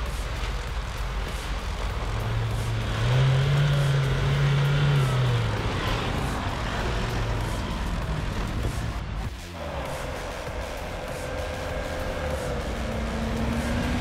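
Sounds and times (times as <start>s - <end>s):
truck engine revving: 0.0s - 14.0s
tyres churning through mud: 0.0s - 14.0s.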